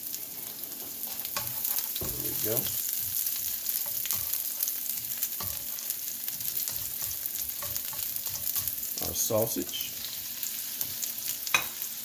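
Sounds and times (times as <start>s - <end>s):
garlic sizzling in hot oil: 0.0s - 12.0s
spatula scraping a wok: 0.5s - 11.9s.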